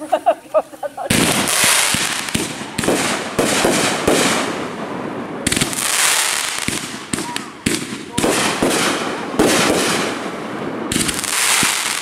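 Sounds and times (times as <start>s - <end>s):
fireworks hissing crackle: 0.0s - 4.4s, 5.5s - 10.2s, 10.9s - 12.0s
fireworks sharp pops: 1.0s - 4.8s, 5.4s - 12.0s.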